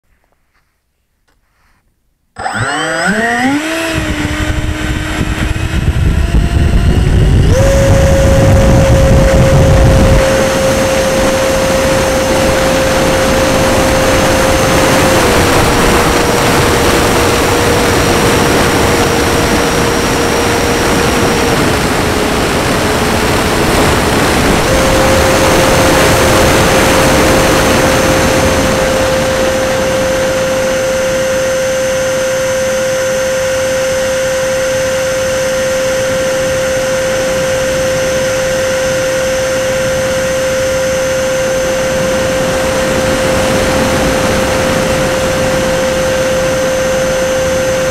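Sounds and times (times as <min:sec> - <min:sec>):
electric ducted-fan whine: 0:00.1 - 0:47.9
wind rush: 0:03.5 - 0:31.3, 0:36.4 - 0:47.9.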